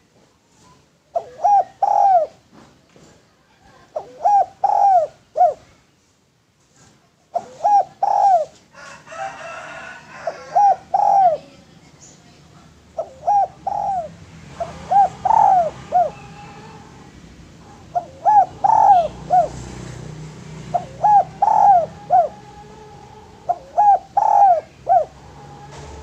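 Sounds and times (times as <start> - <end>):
dove cooing: 1.1 - 2.4, 3.7 - 5.7, 7.3 - 11.7, 12.8 - 26.0.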